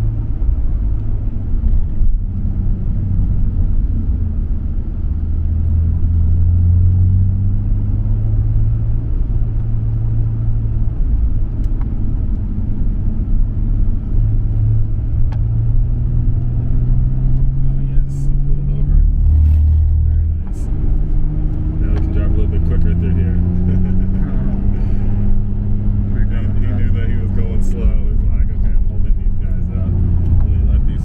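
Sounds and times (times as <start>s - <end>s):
car engine droning while driving: 0.0s - 31.0s.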